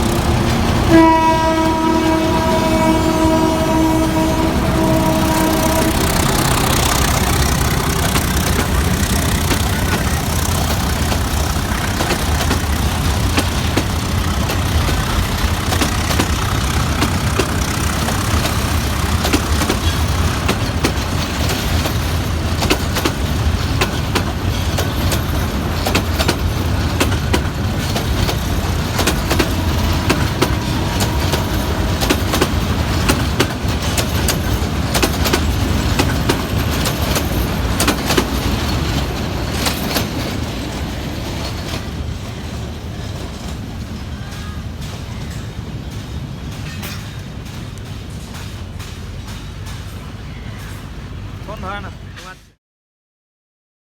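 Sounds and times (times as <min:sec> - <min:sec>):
wheels clicking over rails: 0:00.0 - 0:51.5
train rumbling past: 0:00.0 - 0:52.5.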